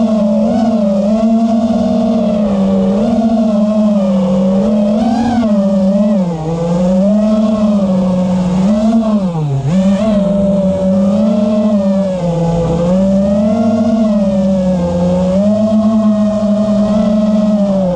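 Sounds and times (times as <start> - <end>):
quadcopter propellers whirring: 0.0 - 17.9.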